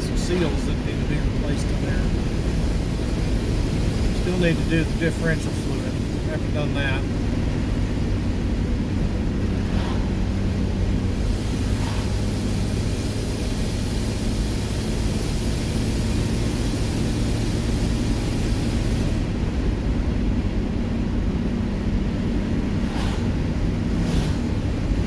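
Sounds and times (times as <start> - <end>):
car engine running steadily: 0.0 - 25.0
wind and road noise: 0.0 - 25.0.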